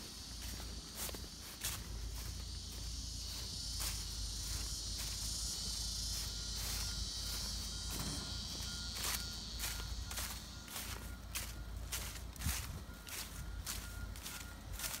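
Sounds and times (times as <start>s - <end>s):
footsteps on grass: 0.0s - 15.0s
insects droning: 0.0s - 15.0s.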